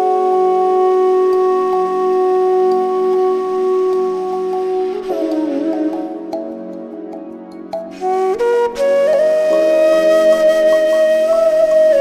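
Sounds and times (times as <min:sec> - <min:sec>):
flute melody: 0:00.0 - 0:12.0.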